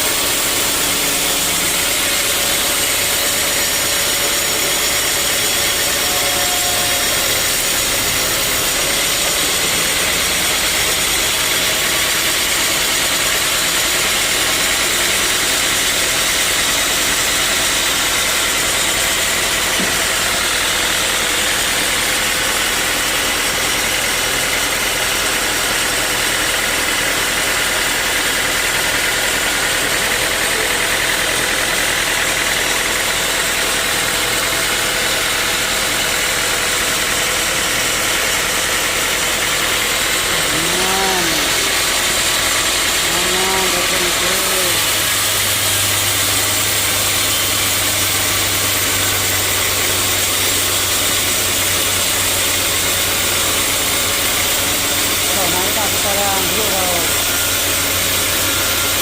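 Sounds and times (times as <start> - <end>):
loud machinery hiss: 0.0 - 26.6, 27.6 - 59.0
sawmill engine hum: 0.0 - 59.0.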